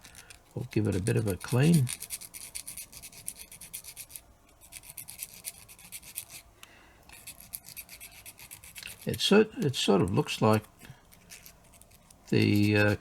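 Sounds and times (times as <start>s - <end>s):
scratchy scrubbing strokes: 0.4s - 6.4s, 7.1s - 9.3s, 10.0s - 13.0s.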